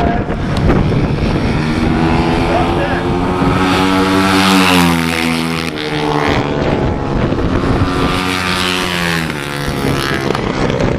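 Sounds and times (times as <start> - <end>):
race motorcycles revving: 0.0 - 10.9.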